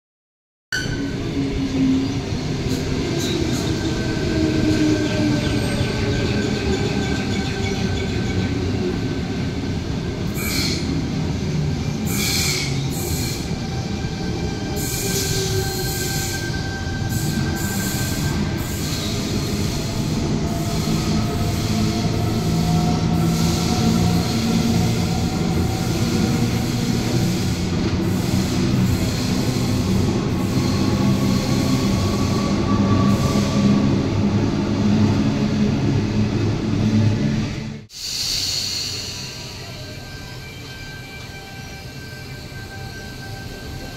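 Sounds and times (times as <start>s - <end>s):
train rumble: 0.8s - 37.9s.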